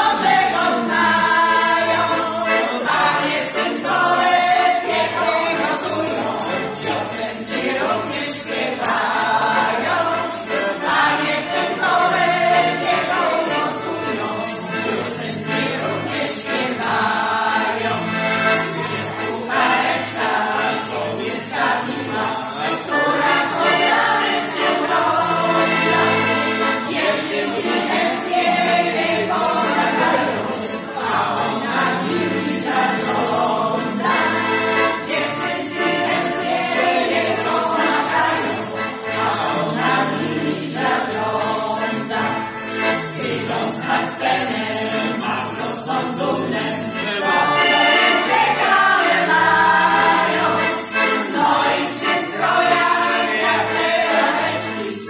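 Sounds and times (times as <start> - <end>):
group singing in unison: 0.0 - 55.0
piano accordion playing: 0.0 - 55.0.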